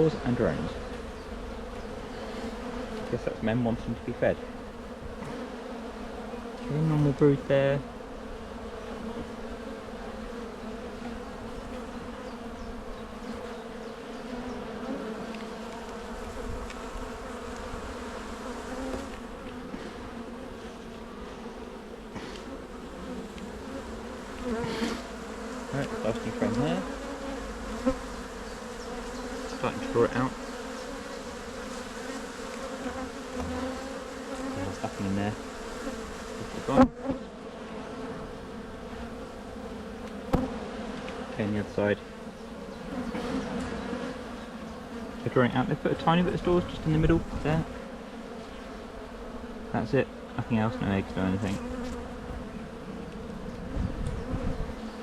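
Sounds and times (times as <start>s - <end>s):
bee colony buzzing: 0.0s - 55.0s
bees buzzing past: 0.0s - 55.0s.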